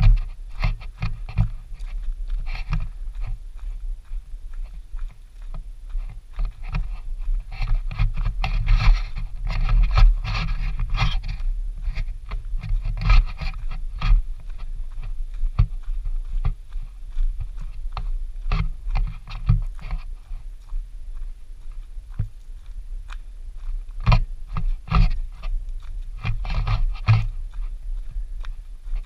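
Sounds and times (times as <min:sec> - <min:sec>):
footsteps on gravel: 0:00.0 - 0:29.0
steady low rumble: 0:00.0 - 0:29.0.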